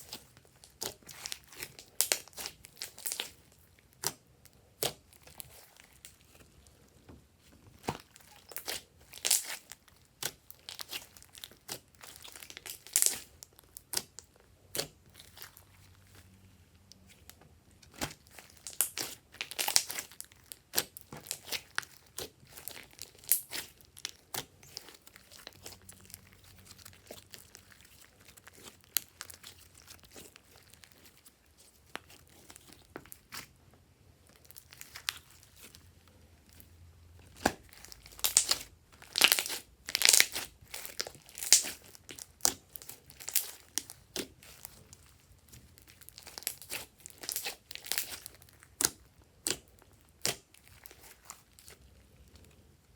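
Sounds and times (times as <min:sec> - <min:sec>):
slime crackling and popping: 0:00.0 - 0:06.6, 0:07.7 - 0:16.2, 0:16.9 - 0:33.5, 0:34.2 - 0:35.9, 0:36.5 - 0:52.9.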